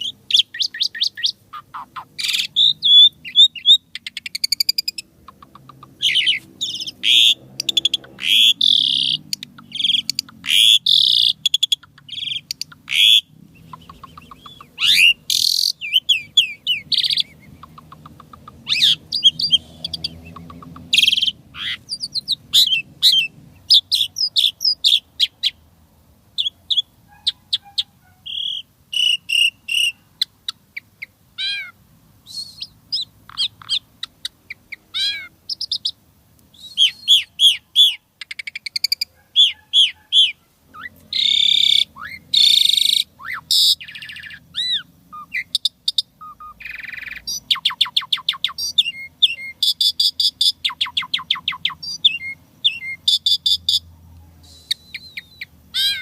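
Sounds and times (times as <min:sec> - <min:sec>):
starling singing: 0:00.0 - 0:25.6, 0:26.4 - 0:56.0.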